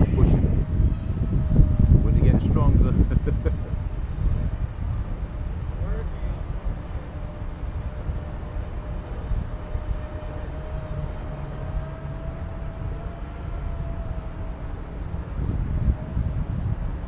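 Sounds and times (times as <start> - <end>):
model airplane motor whining: 0.0 - 17.0
wind rumble on microphone: 0.0 - 17.0.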